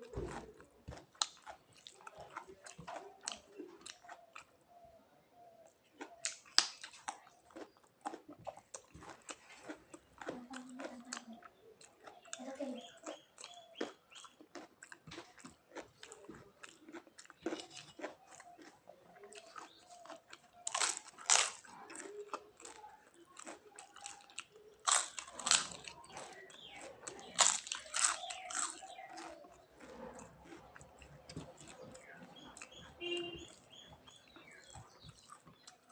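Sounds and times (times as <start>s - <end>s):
person chewing crisp food: 0.0s - 35.9s.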